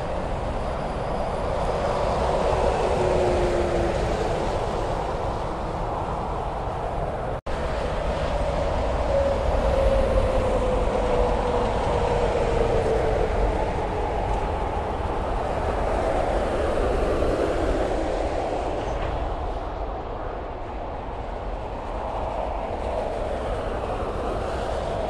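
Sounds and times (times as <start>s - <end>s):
highway traffic rumble: 0.0s - 25.0s.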